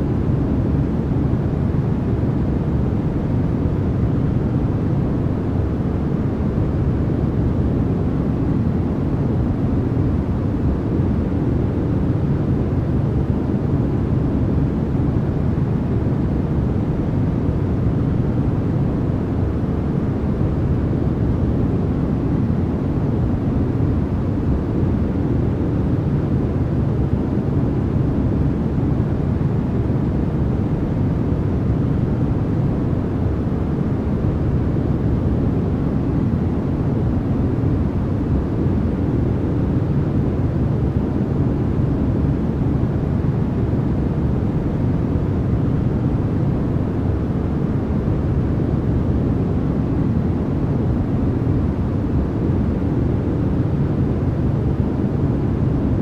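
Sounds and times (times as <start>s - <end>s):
deep white noise rush: 0.0s - 56.0s.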